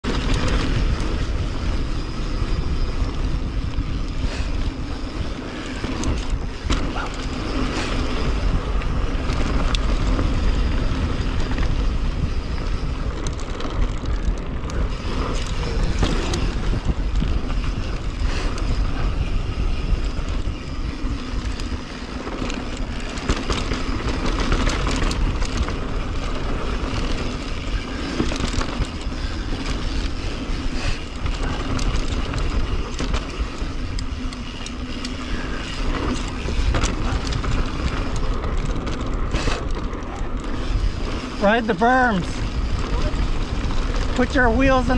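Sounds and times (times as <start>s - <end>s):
bike rattling over bumps: 0.0s - 44.9s
tyre noise on dirt trail: 0.0s - 44.9s
wind buffeting microphone: 0.0s - 44.9s.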